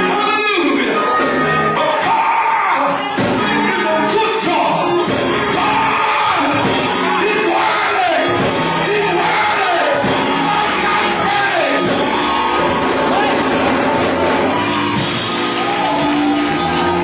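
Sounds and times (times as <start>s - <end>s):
loud live music: 0.0s - 17.0s
voices singing and shouting: 0.0s - 17.0s.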